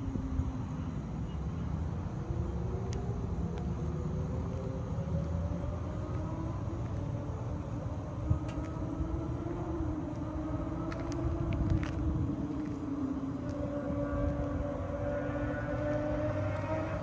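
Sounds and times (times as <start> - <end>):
engine idling low rumble: 0.0 - 17.0.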